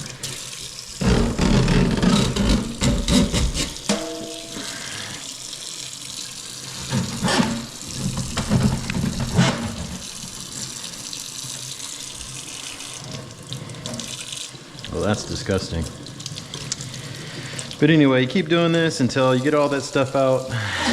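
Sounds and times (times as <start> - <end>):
faucet running into sink: 0.0 - 20.9.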